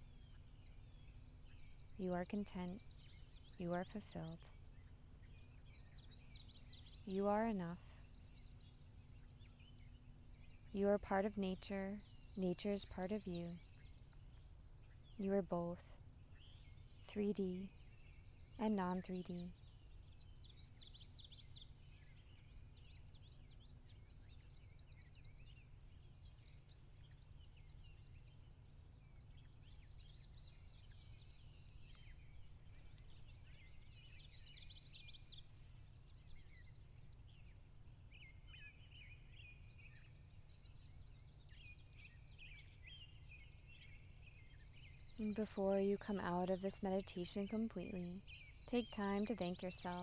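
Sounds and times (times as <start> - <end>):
faint birdsong: 0.0 - 50.0.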